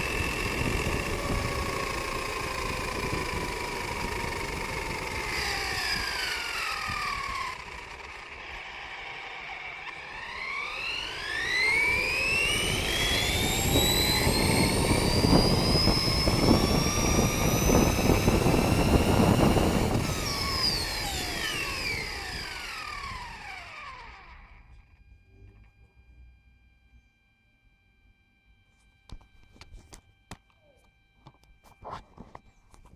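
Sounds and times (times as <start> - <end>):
rc truck motor whining: 0.0 - 26.8.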